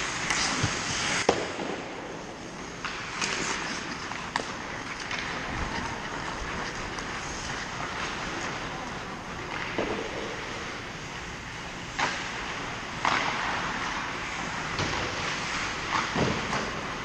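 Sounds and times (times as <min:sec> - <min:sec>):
hockey stick hitting puck: 0:00.0 - 0:08.8, 0:09.4 - 0:10.8, 0:11.9 - 0:17.0
skate blades scraping ice: 0:00.0 - 0:17.0.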